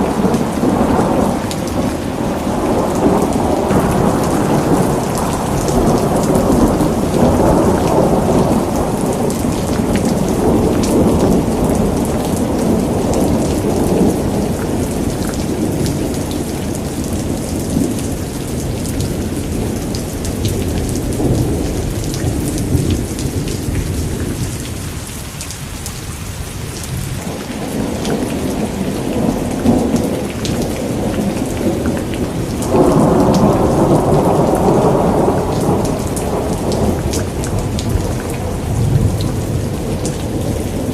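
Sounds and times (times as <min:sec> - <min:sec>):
heavy rain: 0:00.0 - 0:40.9
thunder rumbling: 0:00.0 - 0:40.9.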